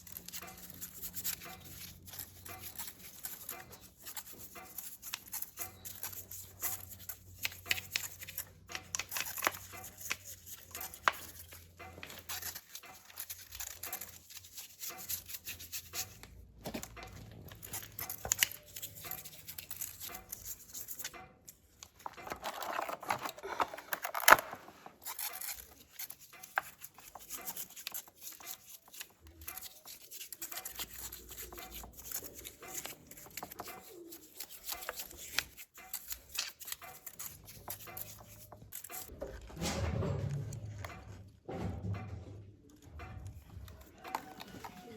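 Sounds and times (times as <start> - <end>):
hands working with tools: 0.0 - 39.6, 40.3 - 44.9.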